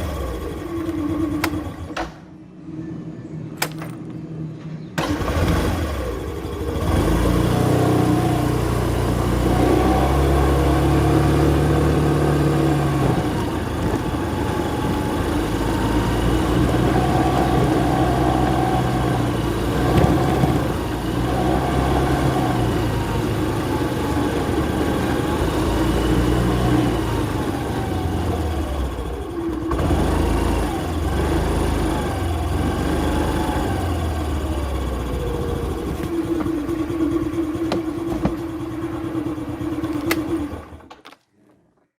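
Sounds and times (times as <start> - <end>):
scooter engine revving: 0.0 - 2.0, 5.0 - 40.9.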